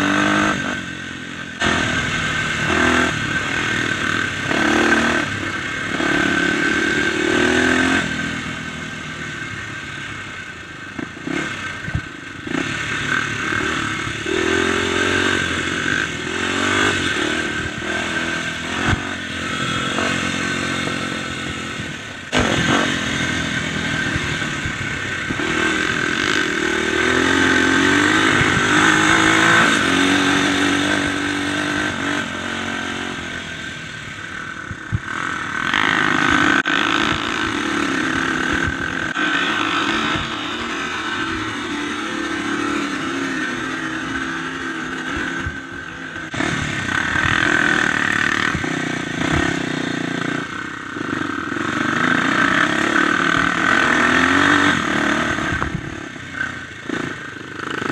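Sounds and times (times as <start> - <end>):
dirt bike engine accelerating: 0.0 - 57.9.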